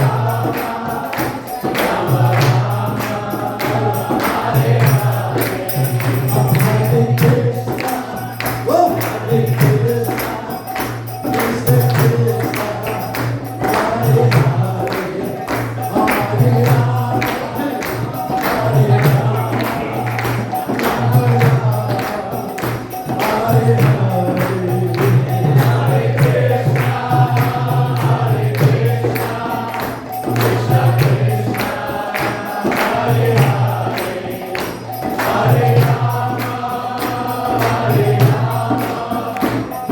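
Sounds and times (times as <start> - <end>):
hand cymbals beat: 0.0 - 39.9.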